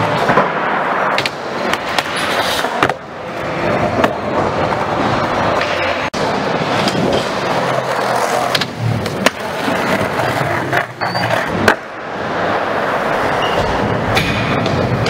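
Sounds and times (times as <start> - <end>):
skateboard clacks: 0.0 - 15.0
skateboard wheels rolling on wood: 0.0 - 15.0.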